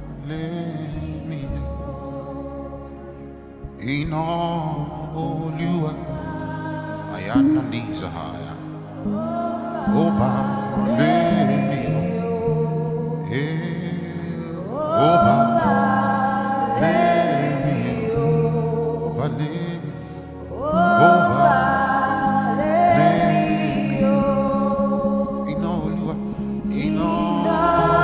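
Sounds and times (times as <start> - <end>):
gospel singing: 0.0 - 28.0
long held chords: 0.0 - 28.0.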